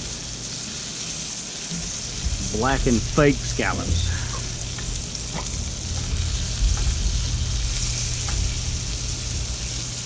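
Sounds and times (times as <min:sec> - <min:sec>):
fish sizzling in a hot pan: 0:00.0 - 0:10.0.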